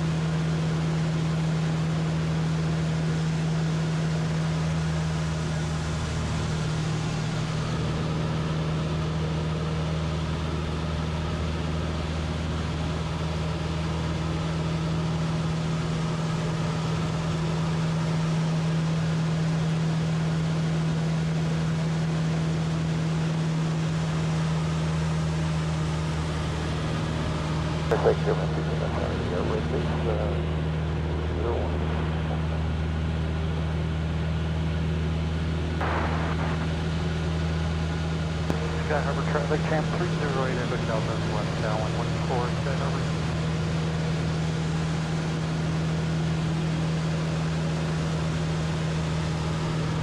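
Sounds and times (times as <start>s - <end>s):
propeller plane engine droning: 0.0s - 50.0s.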